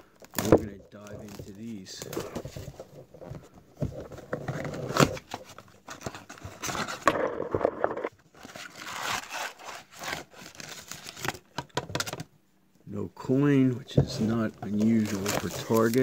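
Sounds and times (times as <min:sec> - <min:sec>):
cardboard and paper crinkling: 0:00.2 - 0:12.1, 0:13.9 - 0:16.0.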